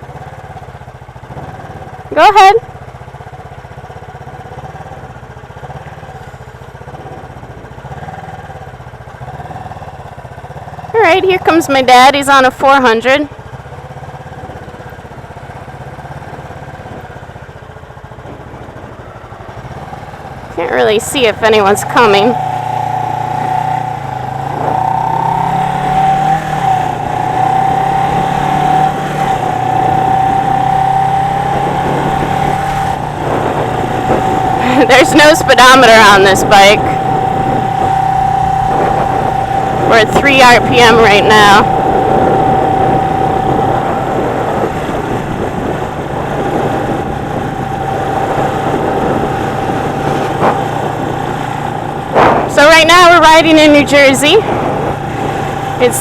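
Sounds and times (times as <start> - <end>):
motorcycle engine idling: 0.0 - 25.9, 32.9 - 56.0.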